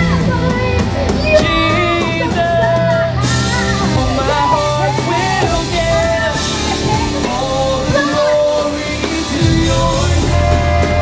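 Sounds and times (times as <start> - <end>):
live rock band playing: 0.0 - 11.0
person singing: 0.0 - 11.0.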